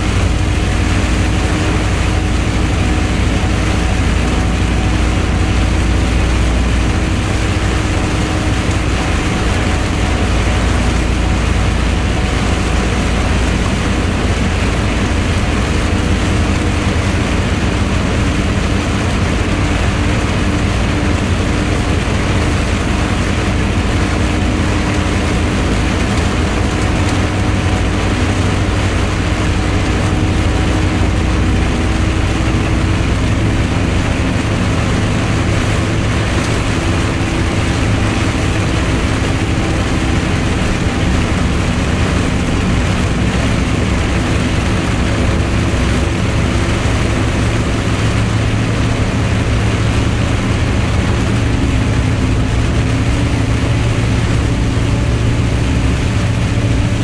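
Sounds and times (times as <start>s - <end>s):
diesel engine running: 0.0s - 57.0s
heavy rain hiss: 0.0s - 57.0s
tyres on wet road: 0.0s - 57.0s.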